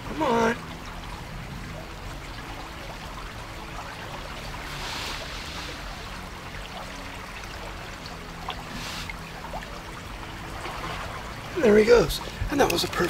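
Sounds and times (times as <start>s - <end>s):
river water trickling: 0.0s - 13.0s
water swish: 0.0s - 13.0s.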